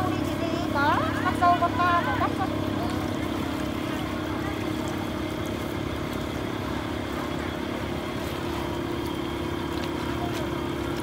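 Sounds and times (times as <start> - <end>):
steady motor hum: 0.0 - 11.0.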